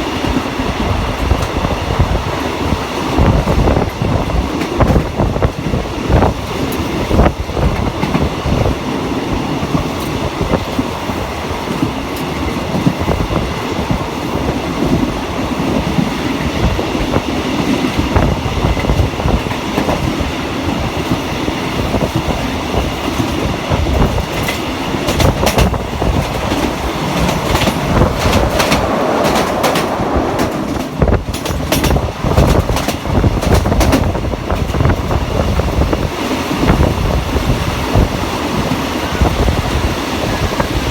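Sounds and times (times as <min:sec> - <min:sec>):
passenger train running: 0:00.0 - 0:40.9
train wheels clicking over rail joints: 0:00.0 - 0:40.9.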